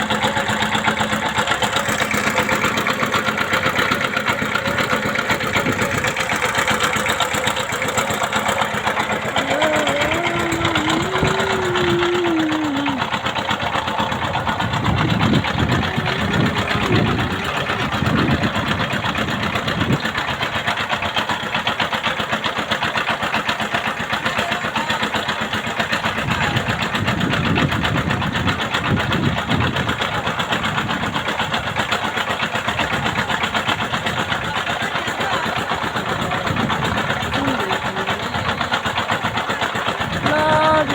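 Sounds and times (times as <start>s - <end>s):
boat engine chugging: 0.0s - 40.9s.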